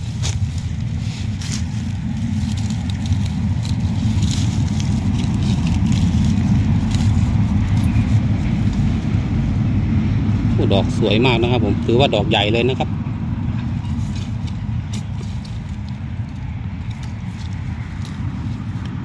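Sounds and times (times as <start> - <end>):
dry leaves brushed by hand: 0.0 - 11.4, 13.6 - 19.0
loud low rumble: 0.0 - 19.0.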